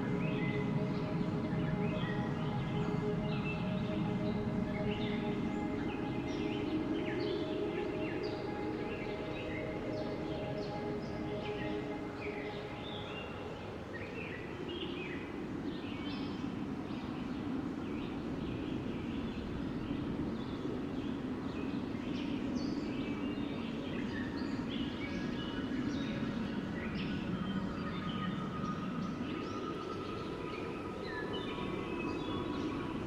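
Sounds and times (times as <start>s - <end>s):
wind blowing in a low rush: 0.0s - 33.0s.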